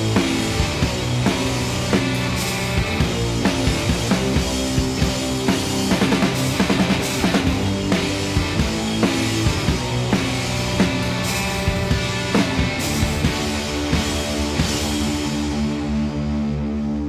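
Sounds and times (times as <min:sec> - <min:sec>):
drum kit beat: 0:00.0 - 0:15.9.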